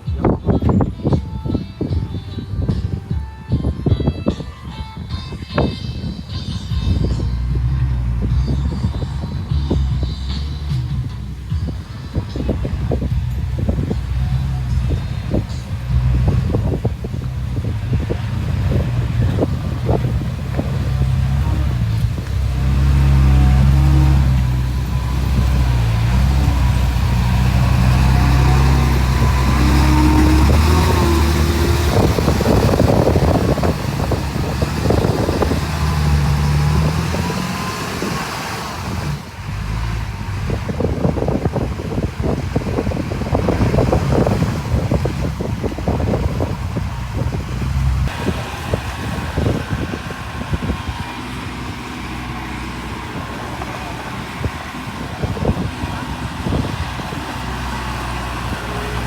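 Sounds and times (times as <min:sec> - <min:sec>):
heavy machinery diesel engine: 0:05.5 - 0:59.0
machinery rattling and clatter: 0:06.9 - 0:59.0.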